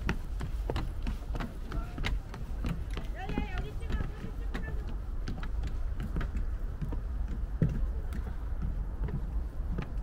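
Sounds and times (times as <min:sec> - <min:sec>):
footsteps on a path: 0:00.0 - 0:10.0
steady low rumble: 0:00.0 - 0:10.0.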